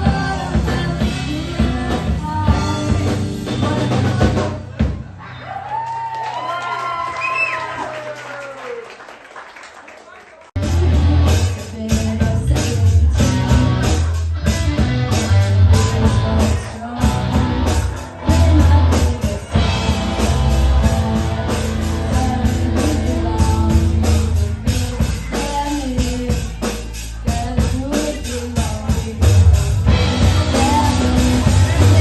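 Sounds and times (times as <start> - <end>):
live rock band playing: 0.0 - 5.3, 10.6 - 32.0.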